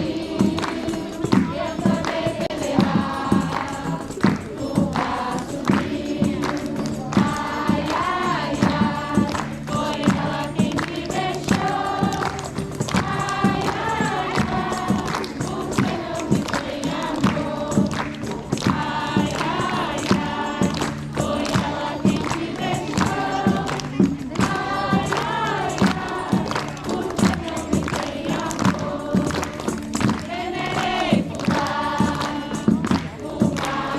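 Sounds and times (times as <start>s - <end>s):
group of voices singing: 0.0s - 33.9s
instrumental accompaniment: 0.0s - 33.9s
steady drum beat: 0.0s - 33.9s.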